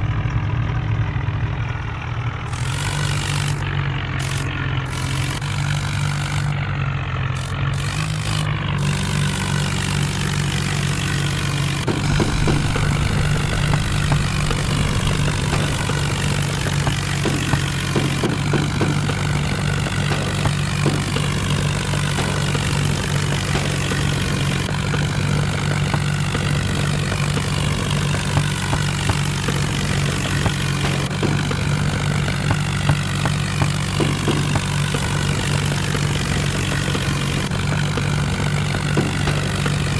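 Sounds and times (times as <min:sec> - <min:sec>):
diesel engine running: 0:00.0 - 0:39.9
sharp knocking ticks: 0:07.4 - 0:39.9.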